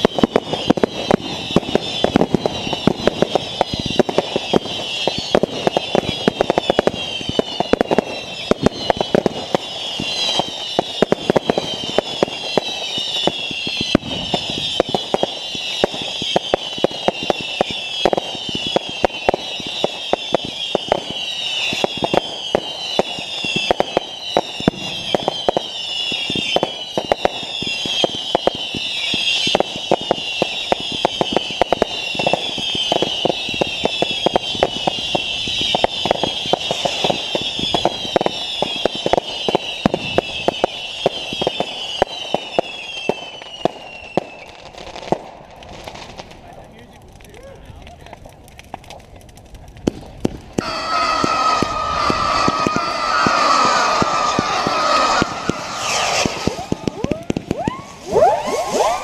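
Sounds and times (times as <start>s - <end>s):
falling firework whistles: 0.0s - 45.2s, 50.6s - 59.0s
fireworks bangs and crackling: 0.0s - 59.0s.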